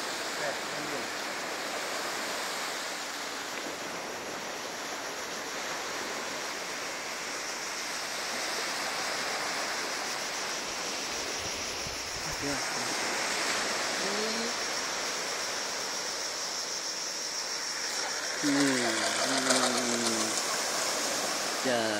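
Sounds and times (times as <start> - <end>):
surf breaking on beach: 0.0 - 15.9, 17.6 - 21.9.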